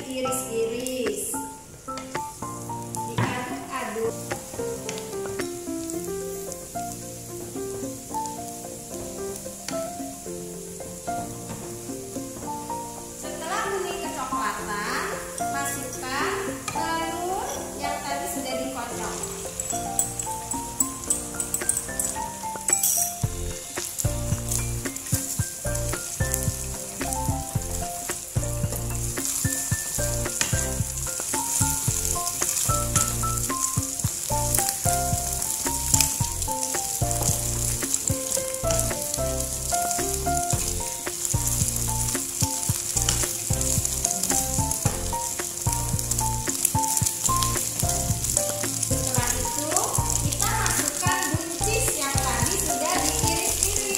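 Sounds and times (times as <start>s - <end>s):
background music: 0.0s - 53.9s
egg sizzling in a frying pan: 0.3s - 53.9s.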